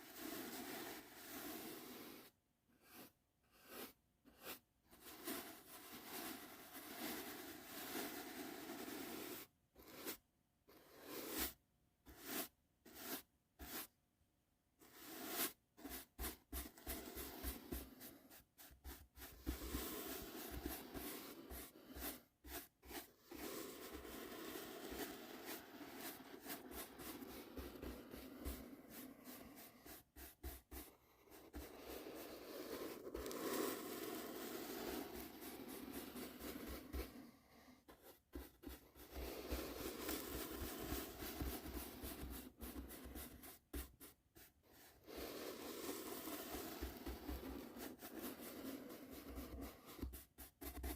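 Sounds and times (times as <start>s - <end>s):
brush strokes rubbing: 0.0s - 13.9s, 14.8s - 50.9s.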